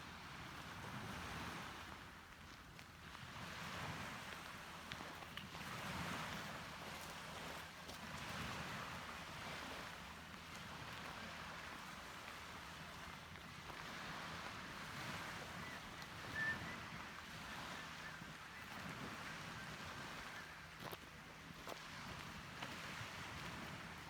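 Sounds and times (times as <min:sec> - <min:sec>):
wind: 0:00.0 - 0:24.0.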